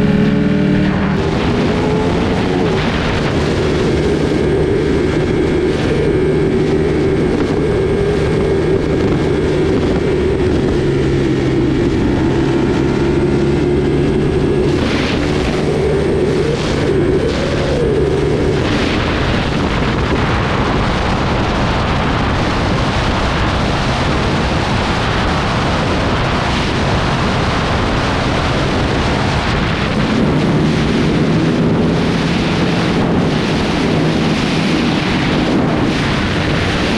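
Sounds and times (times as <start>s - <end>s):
motorcycle engine running: 0.0s - 36.9s
wind noise on microphone: 0.0s - 36.9s.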